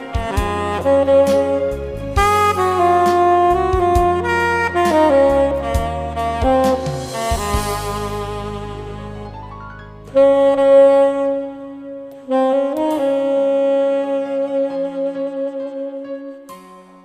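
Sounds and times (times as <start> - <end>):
accompaniment track: 0.0 - 17.0
tenor saxophone ballad melody: 0.0 - 17.0.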